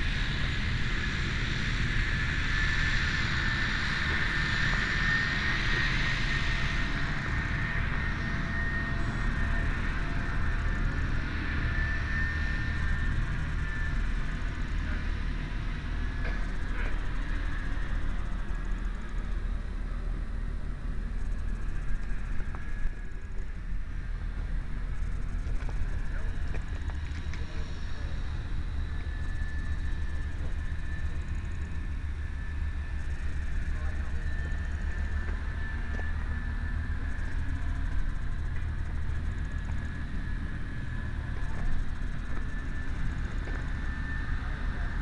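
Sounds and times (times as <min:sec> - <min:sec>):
thin steady whine: 0:00.0 - 0:45.0.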